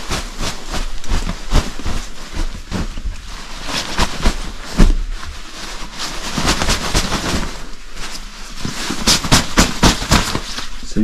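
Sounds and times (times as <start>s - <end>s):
sleeping bag fabric rustling: 0.0s - 10.9s.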